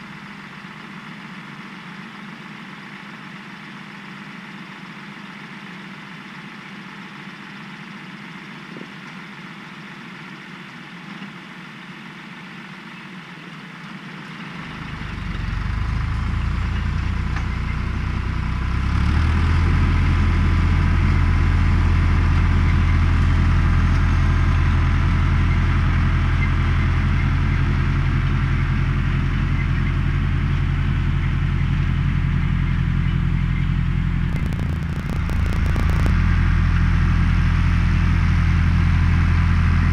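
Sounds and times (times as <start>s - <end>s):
diesel tractor engine: 0.0s - 39.9s.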